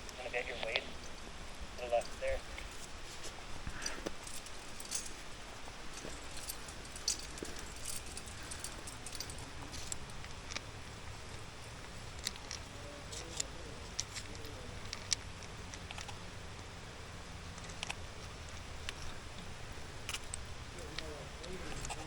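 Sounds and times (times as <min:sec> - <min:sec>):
climbing hardware clinking: 0:00.0 - 0:22.0
low background rumble: 0:00.0 - 0:22.0.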